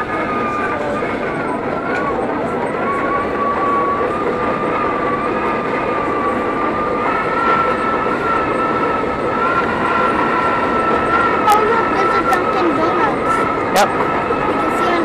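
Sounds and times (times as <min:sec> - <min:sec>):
high whine: 0:00.0 - 0:15.0
subway train running: 0:00.0 - 0:15.0.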